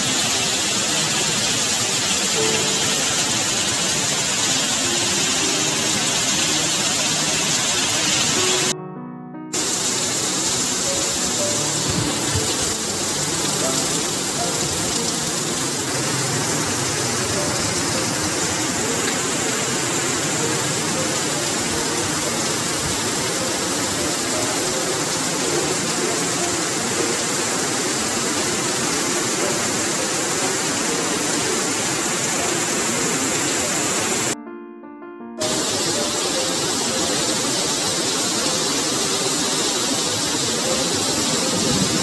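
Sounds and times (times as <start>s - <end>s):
heavy rain falling: 0.0s - 8.7s, 9.6s - 34.4s, 35.4s - 42.0s
water streaming off a roof: 0.0s - 8.7s, 9.6s - 34.4s, 35.4s - 42.0s.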